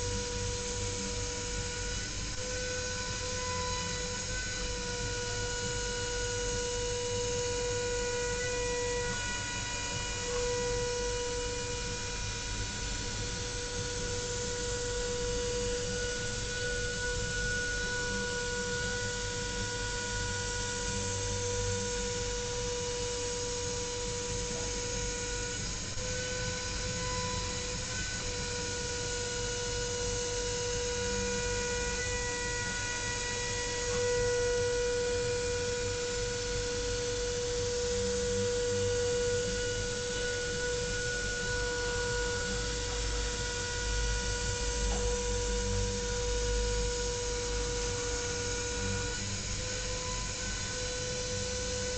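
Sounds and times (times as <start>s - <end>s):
machine spindle whining: 0.0s - 51.9s.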